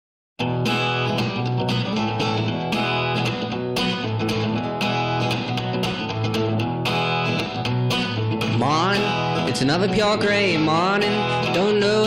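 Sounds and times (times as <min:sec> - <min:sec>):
bass line: 0:00.4 - 0:12.0
strummed guitar: 0:00.4 - 0:12.0.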